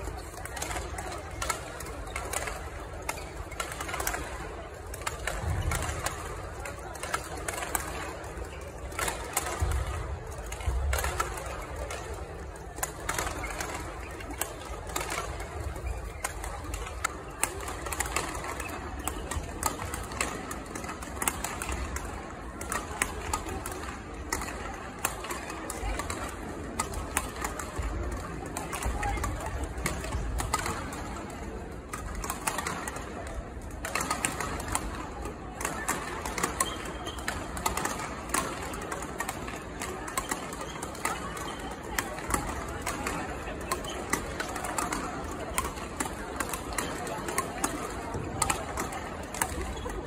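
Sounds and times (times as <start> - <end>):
rackets hitting shuttlecocks: 0.0 - 50.0.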